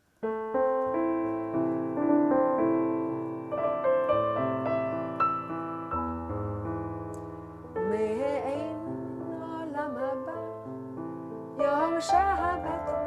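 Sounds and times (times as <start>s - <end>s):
electric keyboard piano melody: 0.2s - 13.0s.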